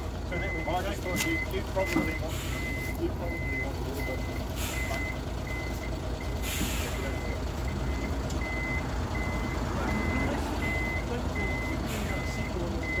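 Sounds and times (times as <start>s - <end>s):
truck engine running: 0.0s - 13.0s
reversing alarm beeping: 0.3s - 13.0s.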